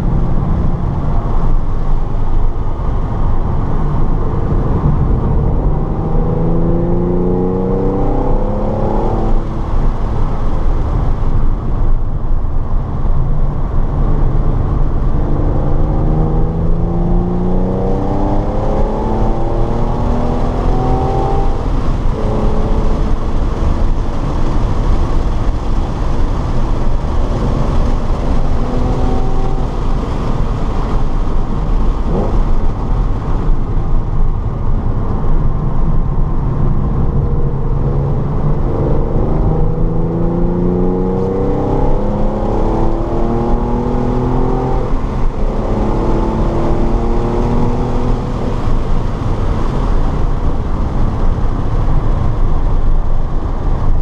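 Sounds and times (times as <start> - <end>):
car engine accelerating hard: 0.0 - 54.0
road and wind rumble: 0.0 - 54.0.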